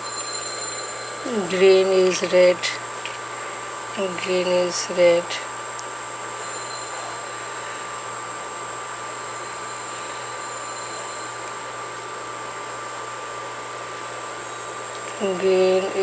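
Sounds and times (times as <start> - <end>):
faint high whine: 0.0 - 16.0
steady hum and hiss: 0.0 - 16.0.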